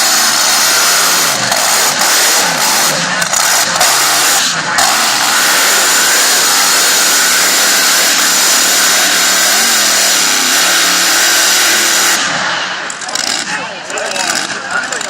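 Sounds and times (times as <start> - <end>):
engine at high revs: 0.0 - 15.0.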